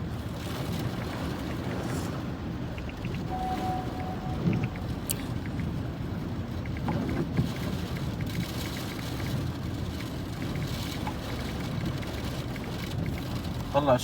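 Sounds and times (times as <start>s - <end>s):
wind buffeting a car: 0.0s - 14.0s.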